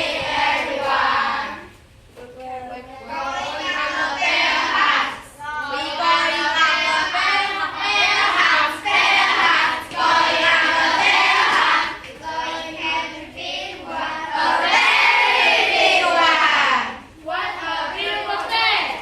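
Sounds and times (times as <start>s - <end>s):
children chanting in unison: 0.0s - 1.7s, 3.1s - 19.0s.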